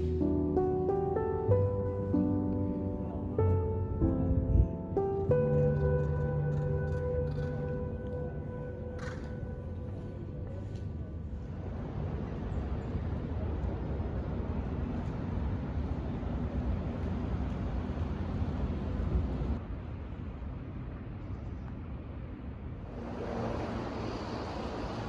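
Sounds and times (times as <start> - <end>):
low rumbling ambience: 0.0 - 25.0.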